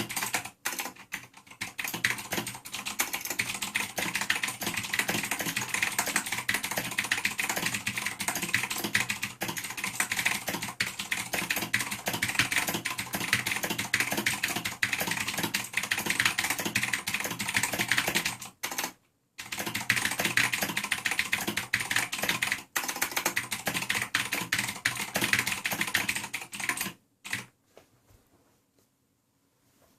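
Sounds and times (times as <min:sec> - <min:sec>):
mechanical keyboard typing: 0:00.0 - 0:27.5.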